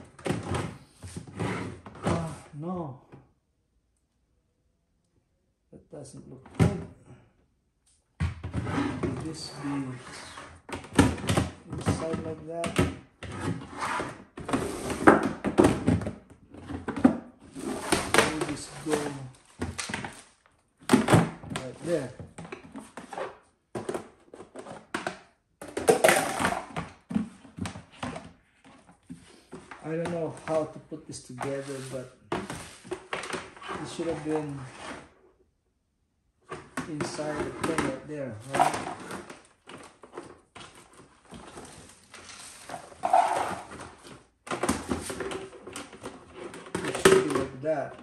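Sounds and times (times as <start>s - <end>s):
plastic parts scraping and knocking: 0.0s - 2.4s, 8.4s - 35.3s, 36.4s - 48.0s.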